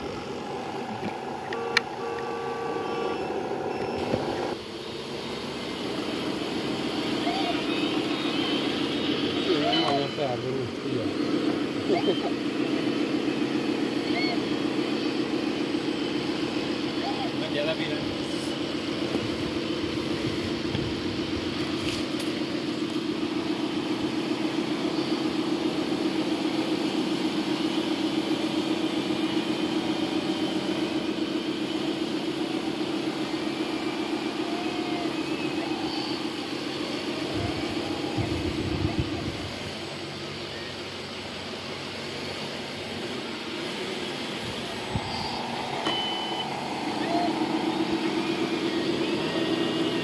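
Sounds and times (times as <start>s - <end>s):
model truck motor droning: 0.0s - 50.0s.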